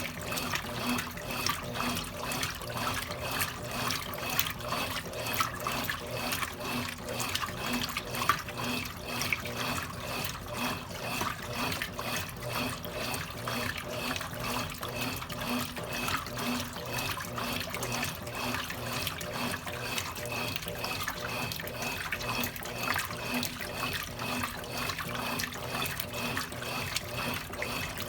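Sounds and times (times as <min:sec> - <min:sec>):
washing machine water sloshing: 0:00.0 - 0:28.0.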